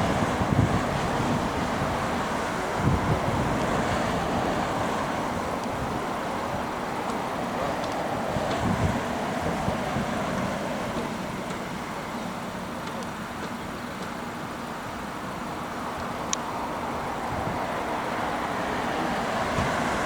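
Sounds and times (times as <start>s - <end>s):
rushing vehicle noise: 0.0s - 20.0s.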